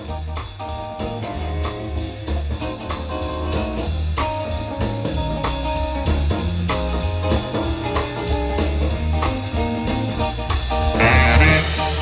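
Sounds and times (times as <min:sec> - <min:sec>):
baritone saxophone: 0:00.0 - 0:05.0, 0:07.3 - 0:12.0
bass line: 0:00.0 - 0:12.0
drum kit steady beat: 0:00.0 - 0:12.0.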